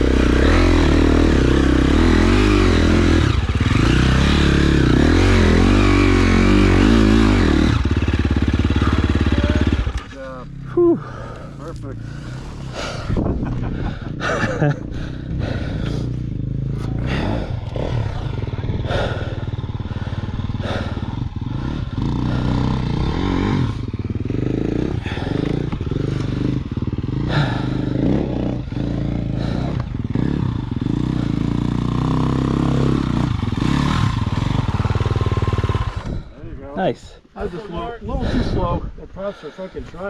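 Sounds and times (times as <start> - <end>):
dirt bike engine revving: 0.0 - 36.4.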